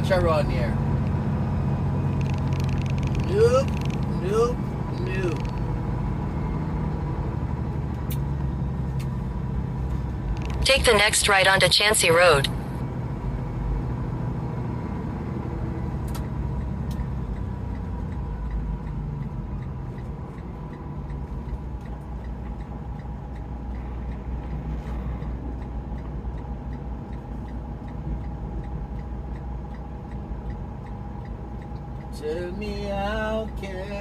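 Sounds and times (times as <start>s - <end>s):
truck engine and road rumble: 0.0s - 34.0s
turn signal ticking: 0.0s - 34.0s.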